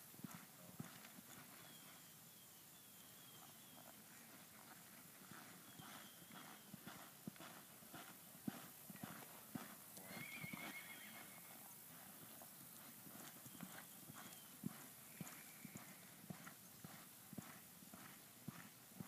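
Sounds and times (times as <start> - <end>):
horse hoofbeats on sand: 0.0 - 2.0, 3.4 - 19.0.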